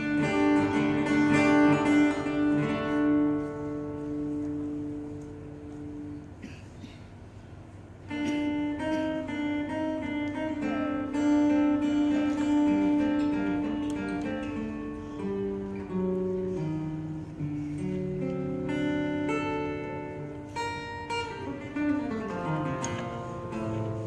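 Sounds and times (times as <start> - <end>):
fingerstyle acoustic guitar: 0.0 - 24.0.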